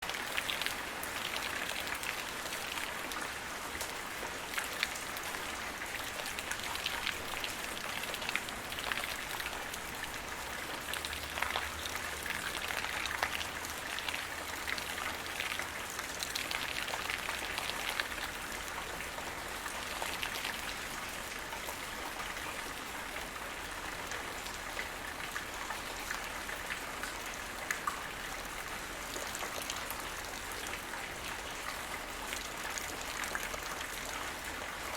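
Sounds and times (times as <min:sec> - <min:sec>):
rain drops pattering: 0:00.0 - 0:34.9.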